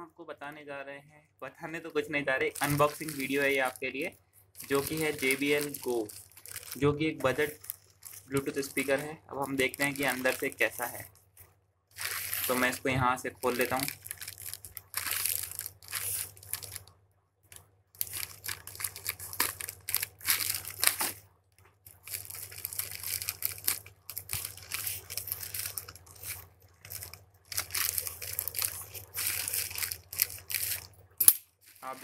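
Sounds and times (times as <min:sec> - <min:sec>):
plastic bag tearing and crinkling: 0:02.4 - 0:11.1, 0:11.9 - 0:16.9, 0:18.0 - 0:21.2, 0:21.8 - 0:32.0.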